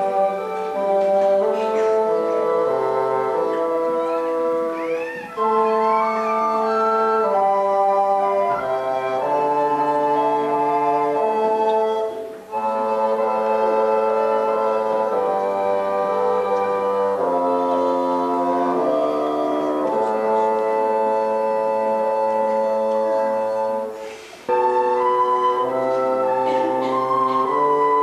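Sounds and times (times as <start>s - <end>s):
woodwind ensemble playing chords: 0.0s - 28.0s.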